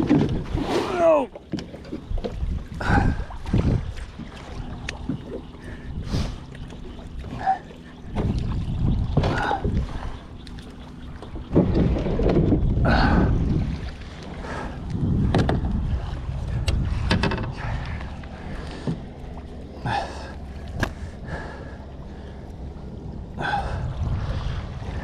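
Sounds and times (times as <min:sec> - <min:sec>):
water lapping against boat: 0:00.0 - 0:25.0
wind buffeting microphone: 0:00.0 - 0:25.0.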